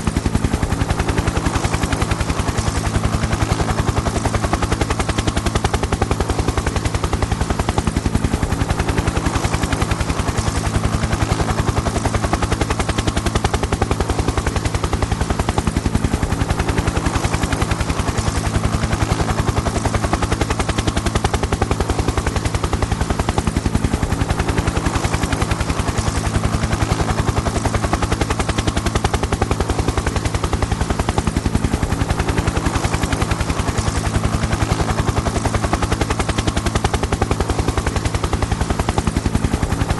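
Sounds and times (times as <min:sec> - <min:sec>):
helicopter engine drone: 0:00.0 - 0:39.9
helicopter rotor chopping: 0:00.0 - 0:39.9.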